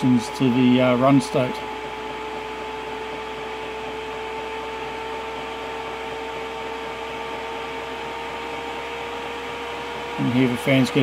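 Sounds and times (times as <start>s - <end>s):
heater blower fan whine: 0.0s - 11.0s.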